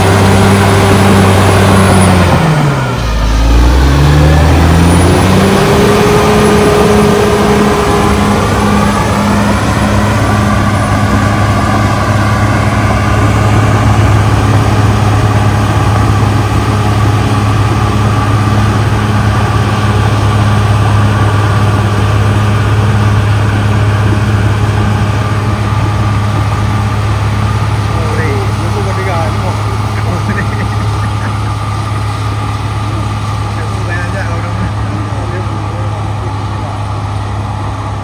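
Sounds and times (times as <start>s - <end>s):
bulldozer diesel engine drone: 0.0s - 38.0s
high whine sliding in pitch: 0.0s - 38.0s.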